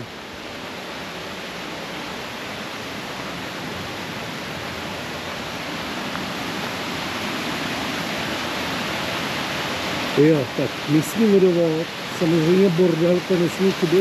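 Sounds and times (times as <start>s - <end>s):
fast-flowing water rushing: 0.0s - 14.0s.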